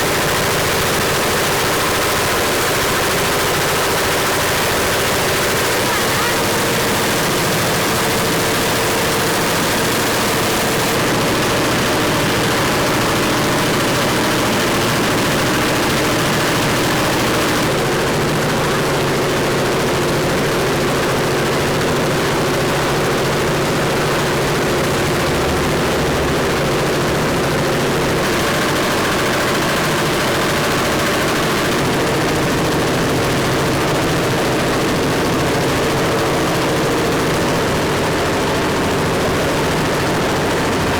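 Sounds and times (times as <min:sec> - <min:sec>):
loud mechanical noise: 0:00.0 - 0:40.9.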